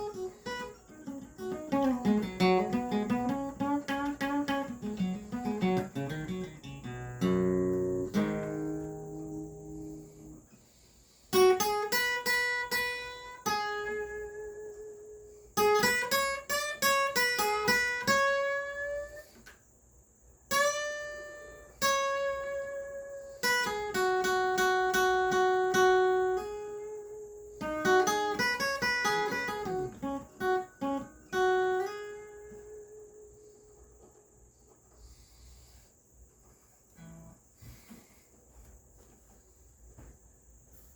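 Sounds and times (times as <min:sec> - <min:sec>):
acoustic guitar picking notes: 0:00.0 - 0:10.5, 0:11.3 - 0:19.6, 0:20.5 - 0:34.8, 0:36.9 - 0:38.2.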